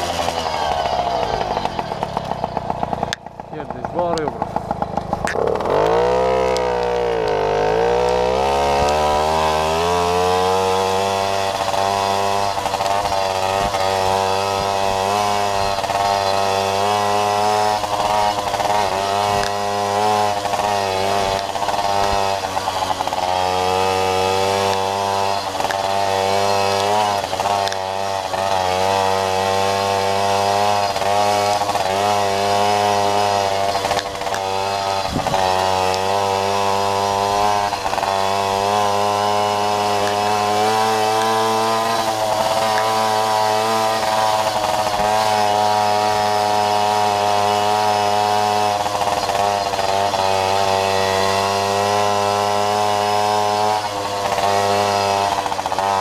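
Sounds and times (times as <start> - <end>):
moped engine revving: 0.0 - 56.0.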